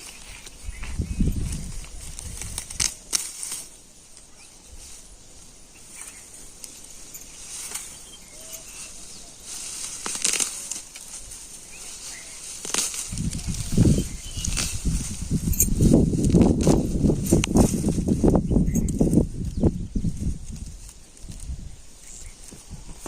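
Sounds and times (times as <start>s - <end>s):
plant stems rustling and snapping: 0.0s - 5.0s, 5.8s - 23.0s.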